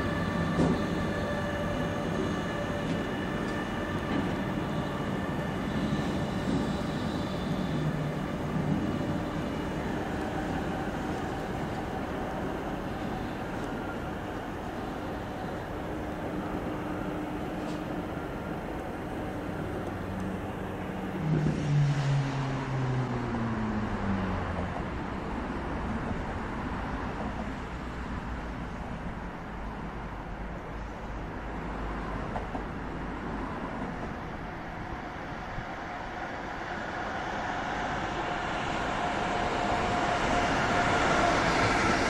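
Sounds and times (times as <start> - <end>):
steady traffic hum: 0.0 - 42.0.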